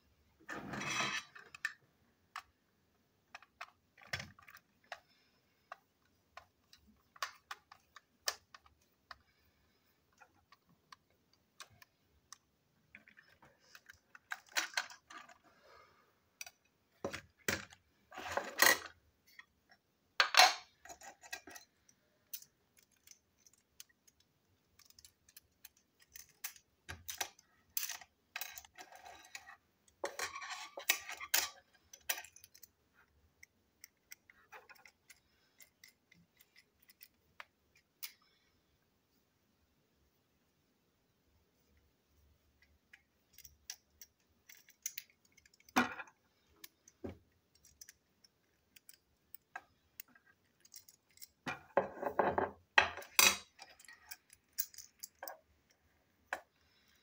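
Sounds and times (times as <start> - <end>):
toy parts rattling and scraping: 0.6 - 38.5, 42.5 - 57.0.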